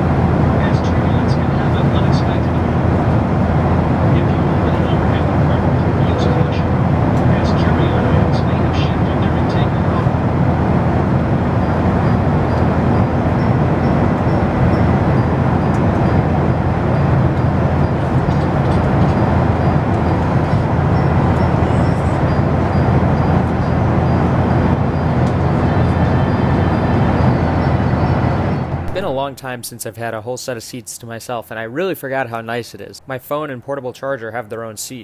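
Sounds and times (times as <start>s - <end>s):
airplane cabin noise: 0.0s - 35.0s
faint high whine: 0.0s - 35.0s.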